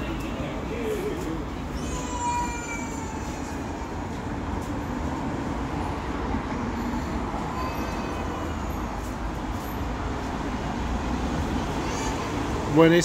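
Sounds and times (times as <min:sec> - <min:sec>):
rail vehicle rumbling past: 0:00.0 - 0:13.0.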